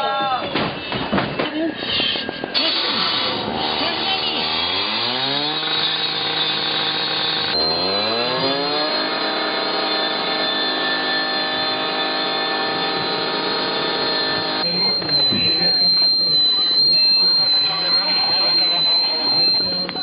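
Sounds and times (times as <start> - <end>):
power tool motor whining: 2.2 - 20.0.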